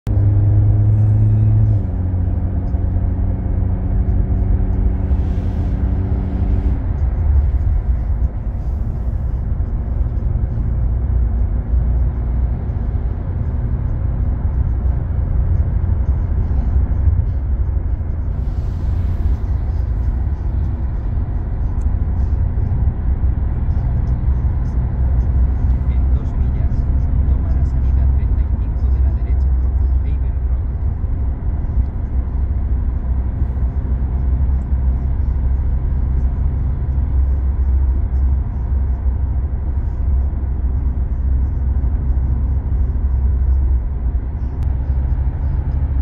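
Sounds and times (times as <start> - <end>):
car cabin road rumble: 0.0 - 46.0
low humming tone: 0.1 - 46.0.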